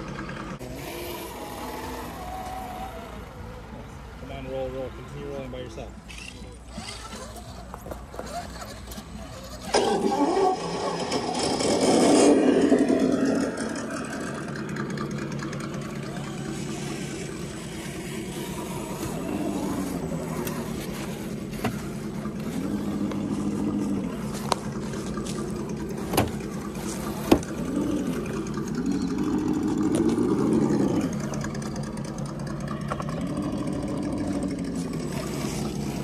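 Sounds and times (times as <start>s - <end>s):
electric motors whining: 0.0s - 4.1s, 5.7s - 36.0s.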